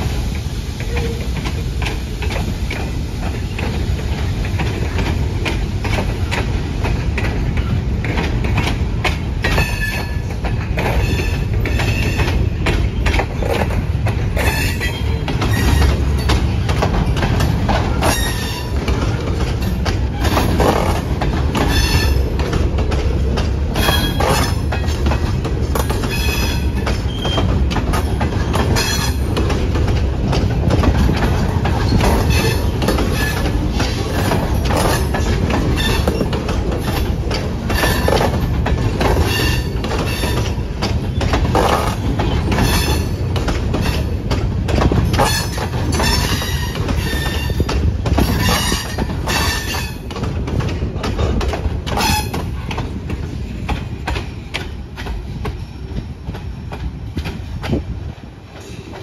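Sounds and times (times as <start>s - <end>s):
steel wheels rumbling on rail: 0.0s - 59.0s
wheels clanking over rail joints: 0.0s - 59.0s.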